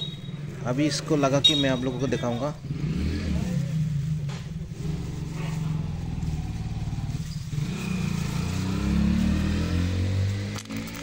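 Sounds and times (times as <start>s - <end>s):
vehicle engine running and revving: 0.0s - 11.0s.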